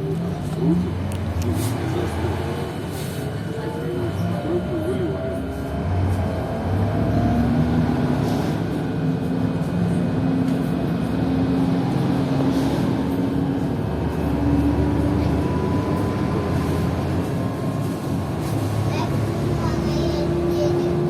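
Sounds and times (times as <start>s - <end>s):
trolleybus running hum: 0.0s - 21.0s.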